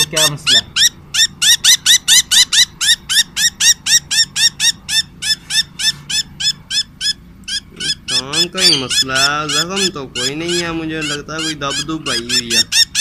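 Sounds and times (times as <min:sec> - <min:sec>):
budgerigar squawking: 0:00.0 - 0:13.0.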